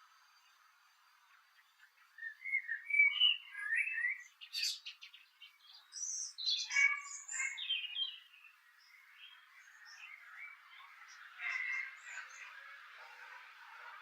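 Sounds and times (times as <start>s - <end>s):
songbird warbling: 1.9s - 13.3s.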